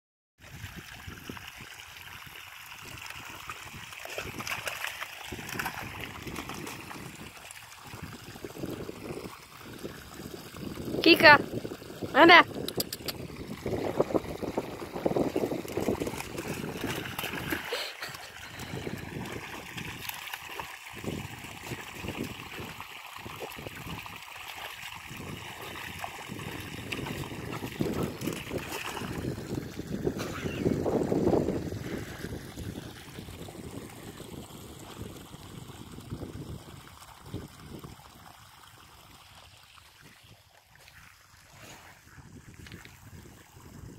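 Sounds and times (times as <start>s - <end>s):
running water splashing: 0.4s - 43.9s.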